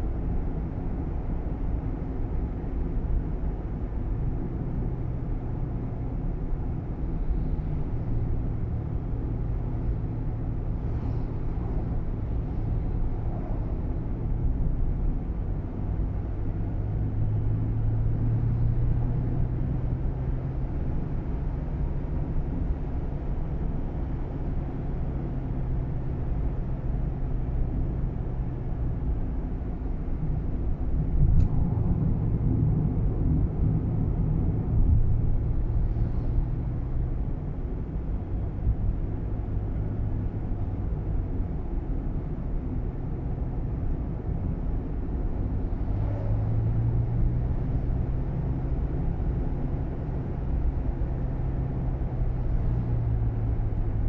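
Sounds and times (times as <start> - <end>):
car engine hum: 0.0 - 54.0
road rumble inside car: 0.0 - 54.0.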